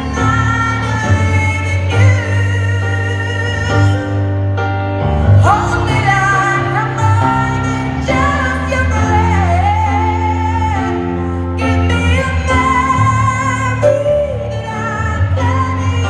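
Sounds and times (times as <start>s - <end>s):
woman singing pop ballad: 0.0s - 4.4s, 5.3s - 16.0s
live band playing: 0.0s - 16.0s.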